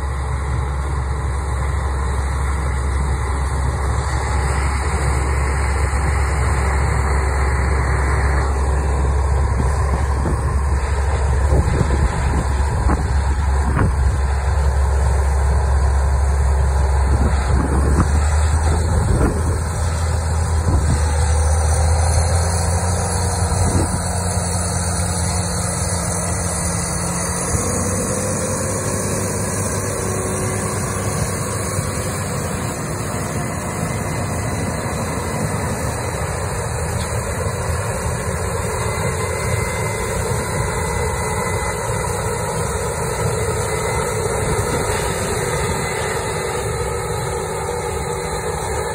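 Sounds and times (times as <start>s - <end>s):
combine harvester running: 0.0s - 48.9s
tractor diesel engine: 0.0s - 48.9s.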